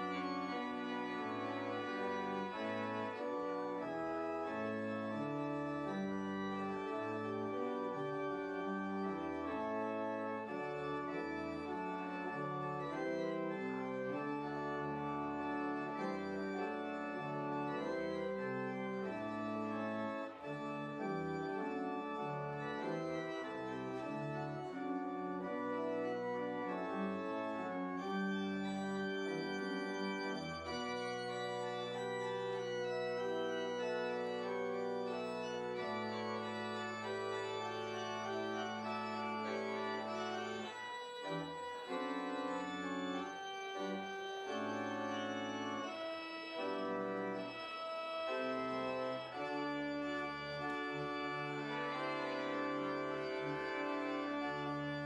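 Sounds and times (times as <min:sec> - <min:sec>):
church pipe organ chords: 0:00.0 - 0:55.0.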